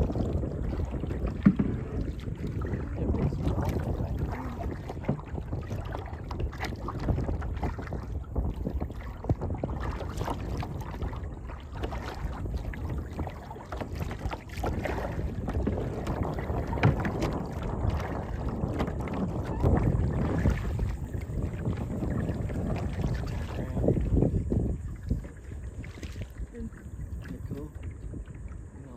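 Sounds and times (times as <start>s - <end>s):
paddle strokes splashing water: 0.0s - 28.9s
wind rumbling on microphone: 0.0s - 28.9s.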